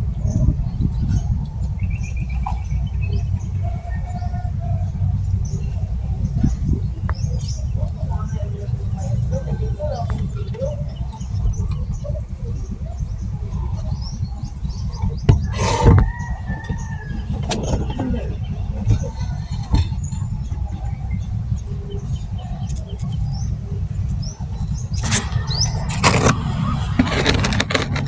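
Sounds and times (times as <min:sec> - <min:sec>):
birds chirping: 0:00.0 - 0:28.0
low outdoor rumble: 0:00.0 - 0:28.0.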